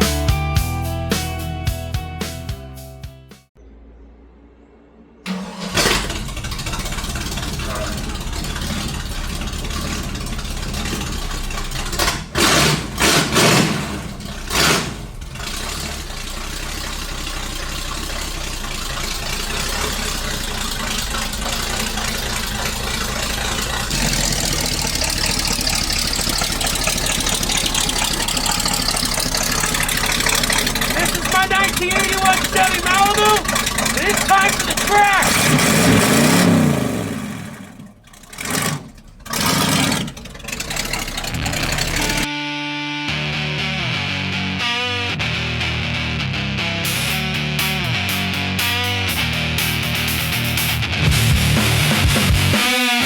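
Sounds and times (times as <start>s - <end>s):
car engine starting and revving: 3.6s - 42.4s, 43.1s - 53.0s.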